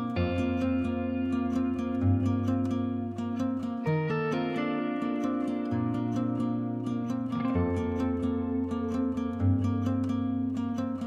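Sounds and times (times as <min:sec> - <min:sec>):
plucked string tune: 0:00.0 - 0:11.0.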